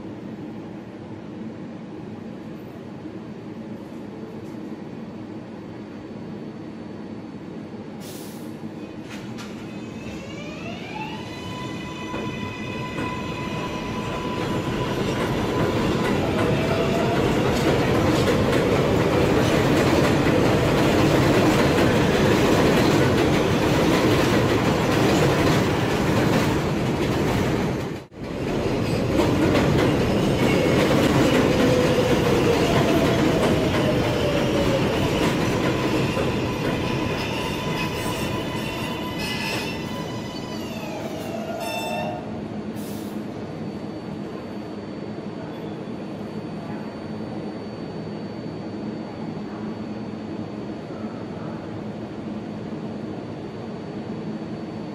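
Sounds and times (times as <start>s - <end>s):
subway trains running on rails: 0.0s - 54.9s.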